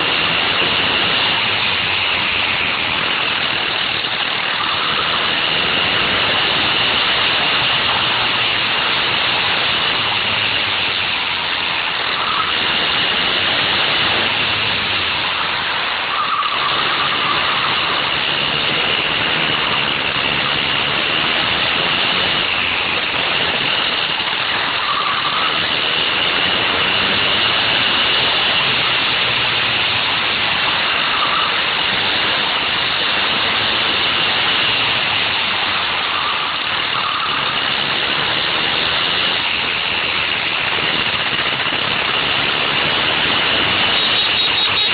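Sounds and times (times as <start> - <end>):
go-kart engine whining: 0.0 - 44.9.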